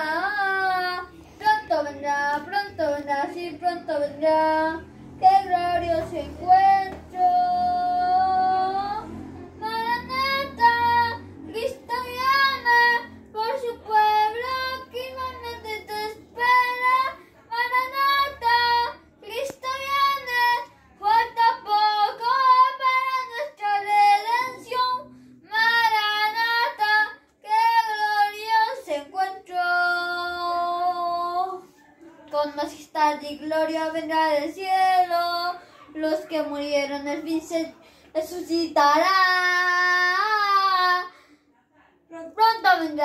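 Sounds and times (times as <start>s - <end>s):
woman singing along: 0.0s - 41.1s
boy singing a hymn: 0.0s - 41.2s, 42.1s - 43.0s.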